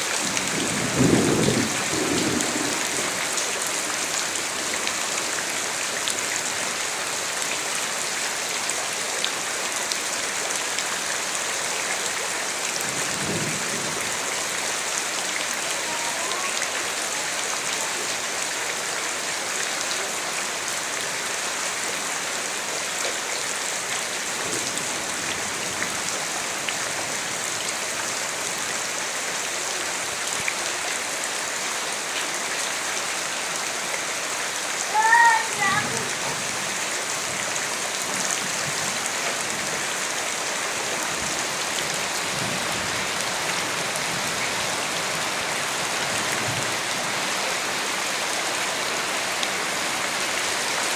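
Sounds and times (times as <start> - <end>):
rain pattering on surfaces: 0.0 - 50.9.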